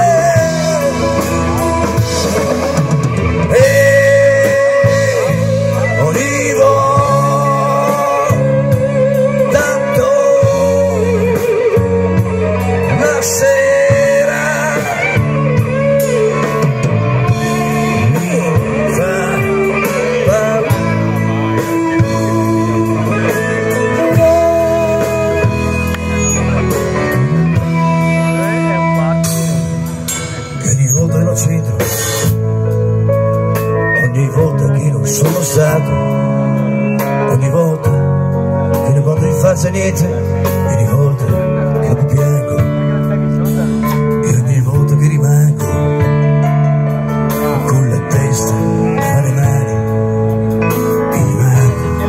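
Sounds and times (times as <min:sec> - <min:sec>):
bending lead guitar notes: 0:00.0 - 0:52.0
live blues-rock band playing: 0:00.0 - 0:52.0.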